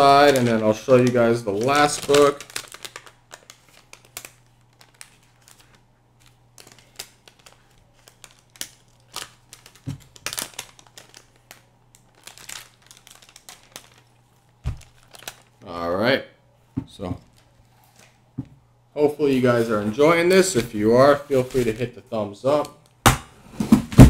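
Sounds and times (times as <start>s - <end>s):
plastic bag crinkling: 0.0s - 15.8s, 17.2s - 18.2s, 19.4s - 22.0s.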